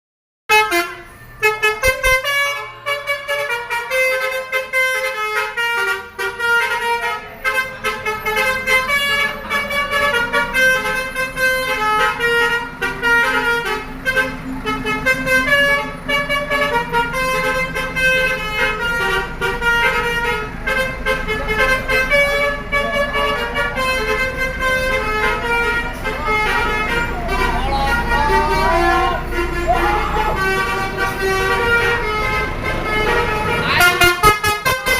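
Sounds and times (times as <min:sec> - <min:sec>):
bus engine rumbling: 0:00.5 - 0:34.9
multi-tone bus horns melody: 0:00.5 - 0:34.9.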